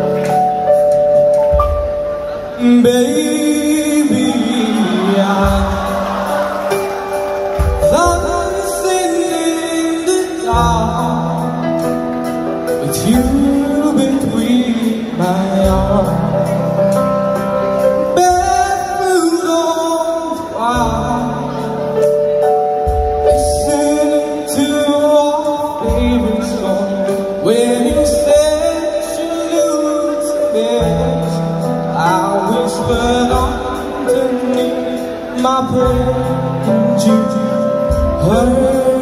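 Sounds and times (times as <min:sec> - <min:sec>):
drums: 0:00.0 - 0:39.0
keyboard: 0:00.0 - 0:39.0
man singing into a microphone: 0:02.2 - 0:06.6, 0:07.8 - 0:39.0.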